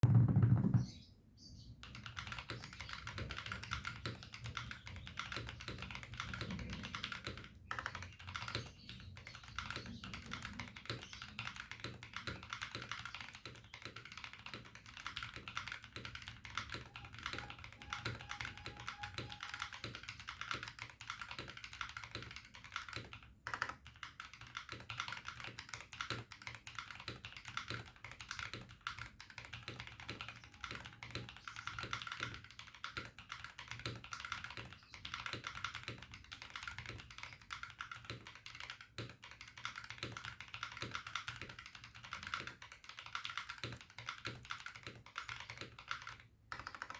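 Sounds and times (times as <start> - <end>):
mechanical keyboard typing: 1.8 - 46.9.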